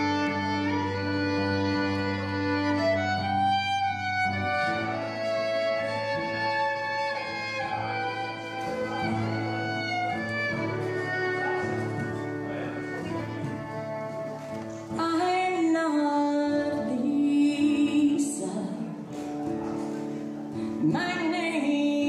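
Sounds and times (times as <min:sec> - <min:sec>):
fiddle melody: 0:00.0 - 0:19.6
country band playing: 0:00.0 - 0:22.0.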